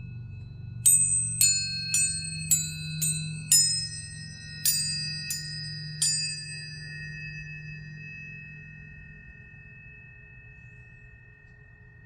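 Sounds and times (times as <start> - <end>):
steady low hum: 0.0 - 12.0
tuning forks ringing: 0.0 - 12.0.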